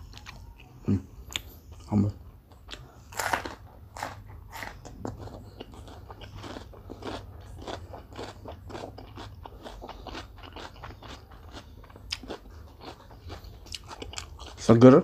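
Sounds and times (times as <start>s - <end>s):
crisp chewing crunches: 2.6s - 14.7s.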